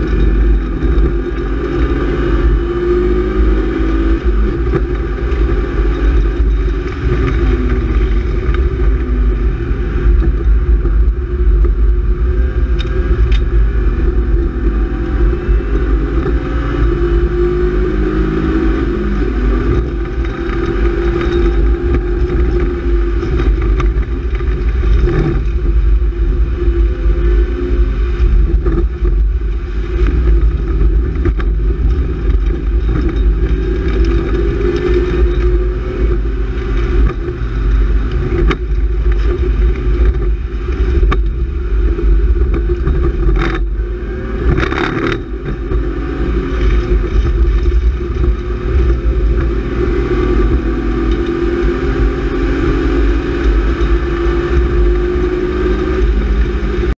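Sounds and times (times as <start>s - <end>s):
car engine under load: 0.0s - 56.9s.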